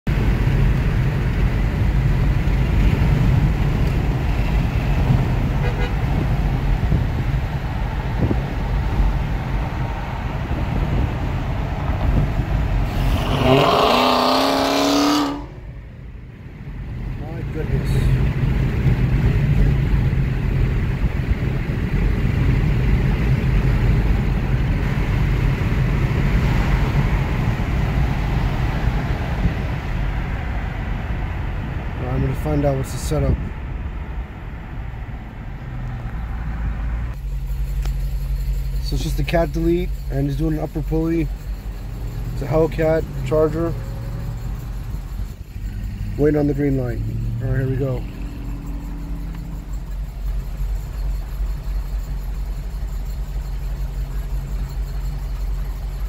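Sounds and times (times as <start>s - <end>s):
car engine rumbling: 0.0s - 56.0s
road noise: 0.0s - 56.0s.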